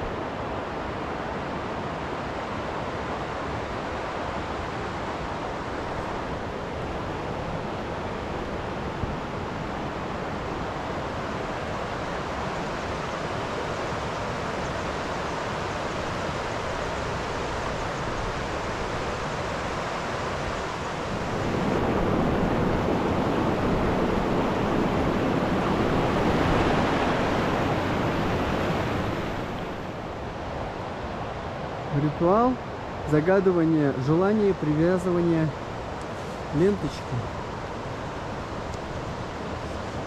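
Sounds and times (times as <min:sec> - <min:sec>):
river rushing: 0:00.0 - 0:40.0.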